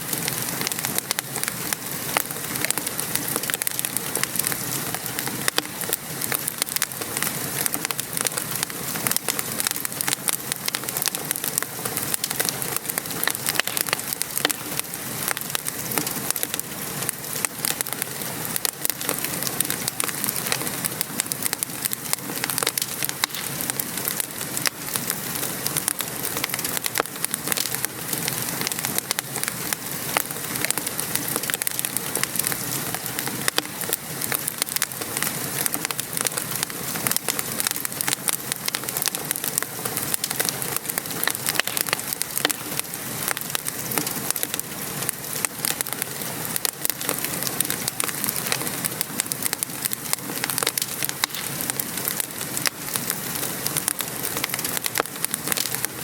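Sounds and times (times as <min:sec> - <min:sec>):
gentle rain falling: 0:00.0 - 0:56.0
wood fire crackling: 0:00.0 - 0:56.0.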